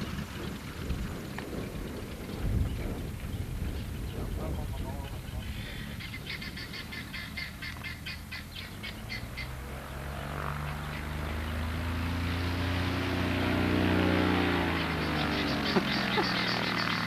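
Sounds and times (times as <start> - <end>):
propeller plane passing: 0.0 - 17.0.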